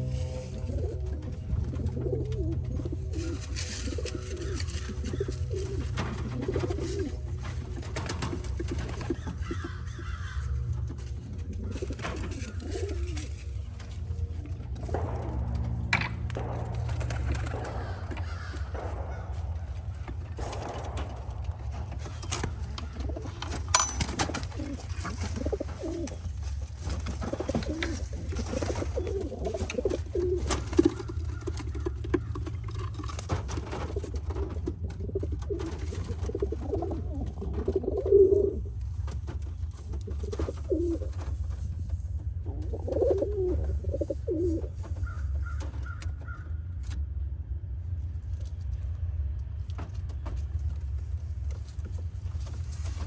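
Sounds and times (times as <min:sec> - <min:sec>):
pigeons cooing: 0:00.0 - 0:41.6, 0:42.2 - 0:46.9
steady low rumble: 0:00.0 - 0:53.0.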